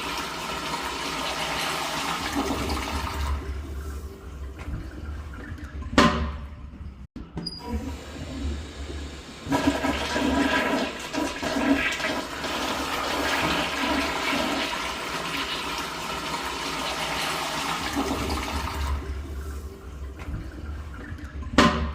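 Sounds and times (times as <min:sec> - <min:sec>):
toilet flushing: 0:00.0 - 0:06.7, 0:07.6 - 0:21.9.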